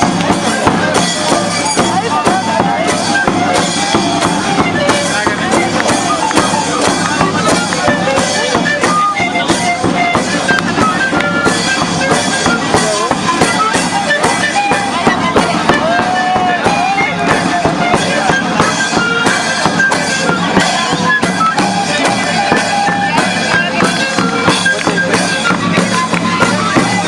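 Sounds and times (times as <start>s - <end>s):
drum-led live music: 0.0s - 27.0s
many voices: 0.0s - 27.0s.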